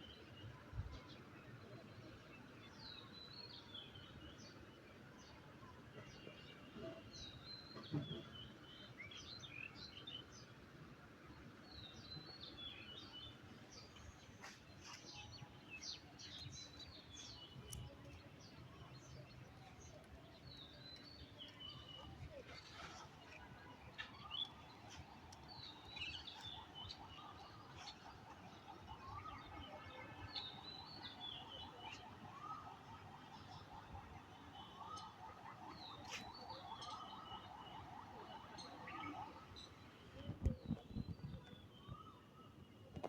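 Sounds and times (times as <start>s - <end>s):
small birds chirping faintly: 0.0s - 43.0s.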